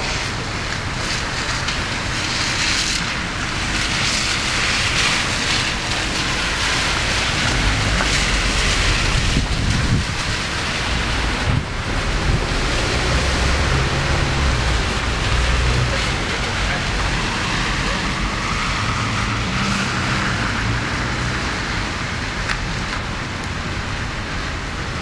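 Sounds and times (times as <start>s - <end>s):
car tyres swishing on wet road: 0.0s - 25.0s
rain and wind rushing: 0.0s - 25.0s.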